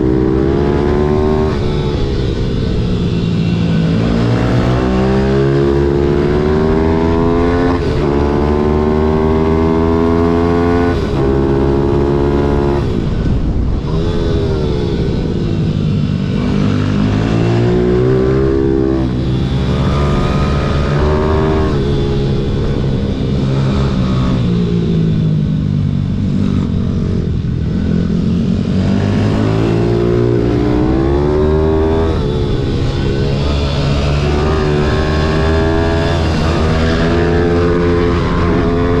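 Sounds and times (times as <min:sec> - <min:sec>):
pit bike engine revving: 0:00.0 - 0:39.0.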